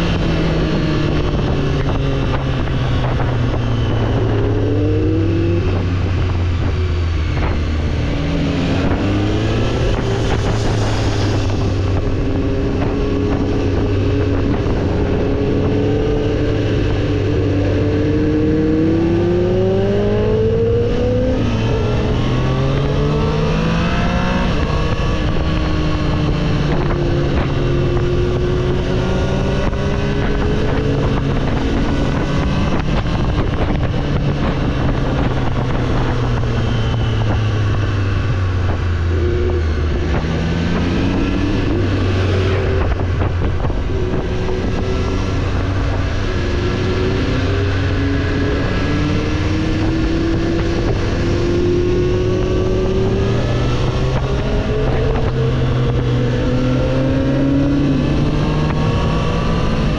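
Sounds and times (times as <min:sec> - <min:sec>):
motorcycle engine accelerating: 0:00.0 - 0:59.9
wind rush: 0:00.0 - 0:59.9.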